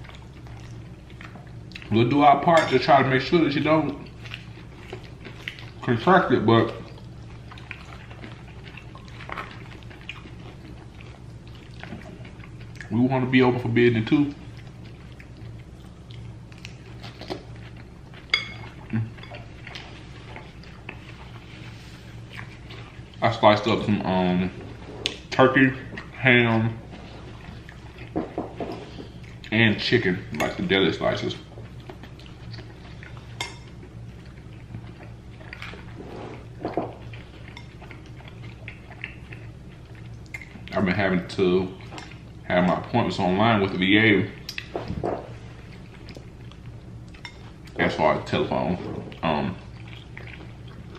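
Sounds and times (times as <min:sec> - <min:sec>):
eating sounds: 0:00.0 - 0:50.9
steady low hum: 0:00.0 - 0:50.9.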